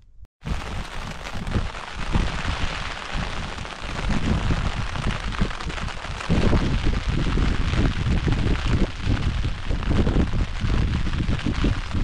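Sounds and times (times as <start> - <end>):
wind buffeting microphone: 0.4 - 12.0.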